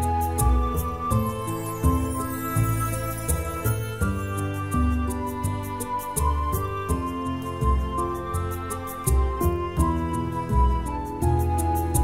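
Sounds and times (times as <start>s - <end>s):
melodic background music: 0.0s - 12.0s.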